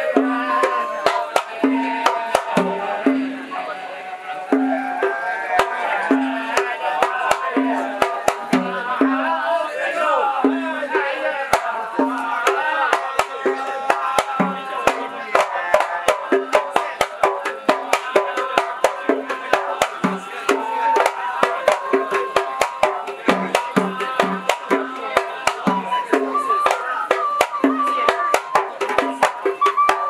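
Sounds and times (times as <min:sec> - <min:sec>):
hand drums beating: 0:00.0 - 0:03.6, 0:04.4 - 0:09.5, 0:10.4 - 0:30.0
men singing together: 0:00.0 - 0:30.0.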